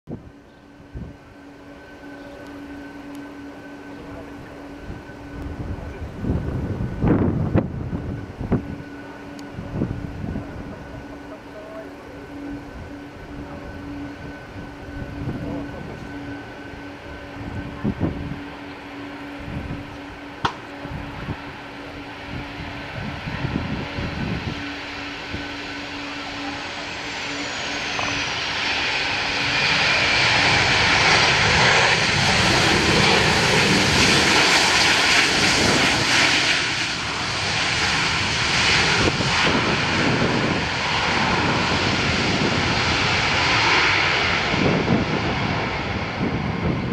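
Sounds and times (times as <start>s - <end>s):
jet engine whine and rush: 0.1s - 46.9s.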